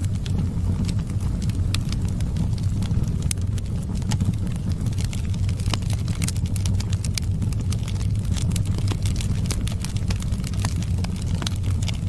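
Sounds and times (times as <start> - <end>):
fire popping and snapping: 0.0 - 12.0
low fire rumble: 0.0 - 12.0.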